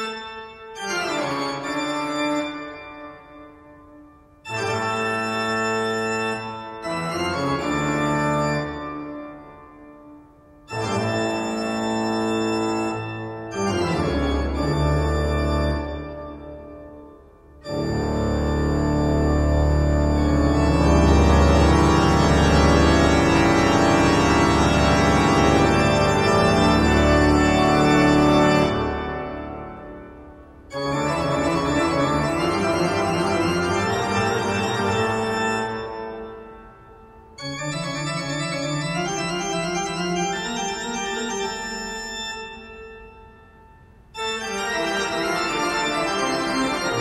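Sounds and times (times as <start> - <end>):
sustained keyboard chords: 0.0 - 47.0.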